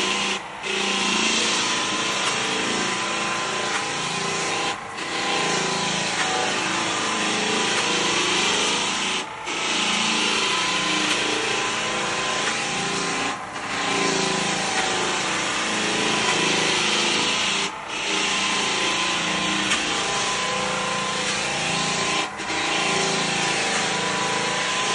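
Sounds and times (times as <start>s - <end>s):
floor sander on wooden decking: 0.0s - 24.9s.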